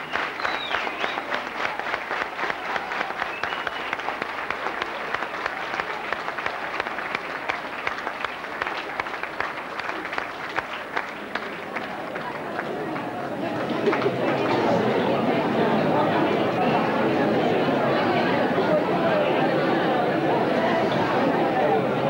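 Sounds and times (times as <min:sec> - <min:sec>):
crowd applause: 0:00.0 - 0:22.0.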